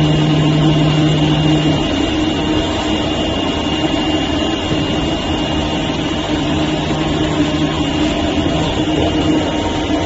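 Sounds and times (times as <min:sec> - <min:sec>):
cutting machine drone: 0:00.0 - 0:10.0.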